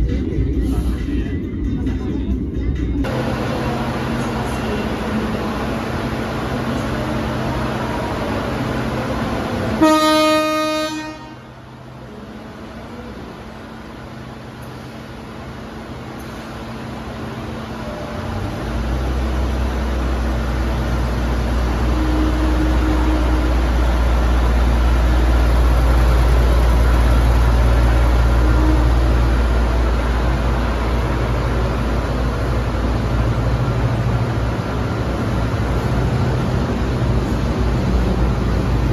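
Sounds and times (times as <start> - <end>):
diesel train engine rumbling: 0.0 - 38.9.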